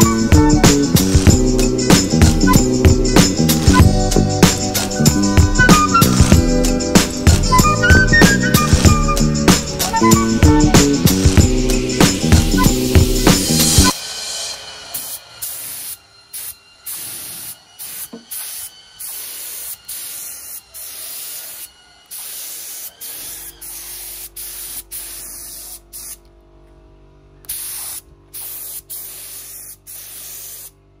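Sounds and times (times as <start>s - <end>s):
paint sprayer hissing: 0.0s - 14.0s, 14.9s - 26.3s, 27.5s - 30.8s.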